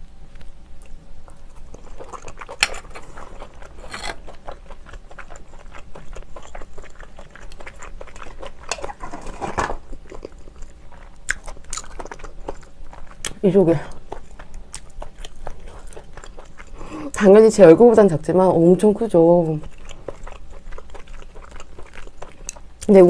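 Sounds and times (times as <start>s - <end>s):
close chewing: 0.3s - 23.0s.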